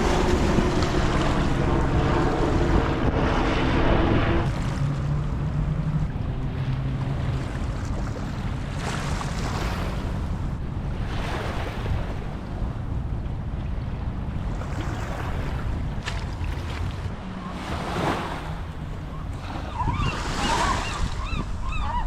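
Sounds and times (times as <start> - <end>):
surf: 0.0 - 22.0
wind buffeting microphone: 0.0 - 22.0.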